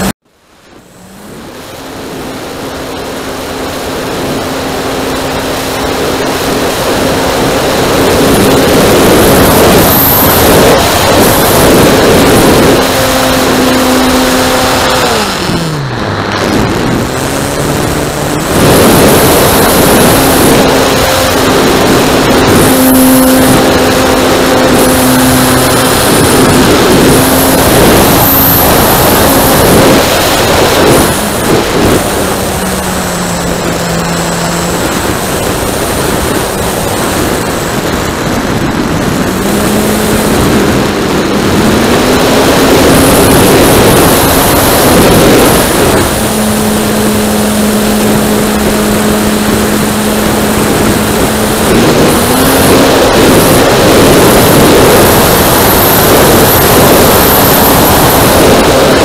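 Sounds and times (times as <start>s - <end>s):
model plane motor and propeller: 0.0s - 59.0s
wind rush: 0.0s - 59.0s.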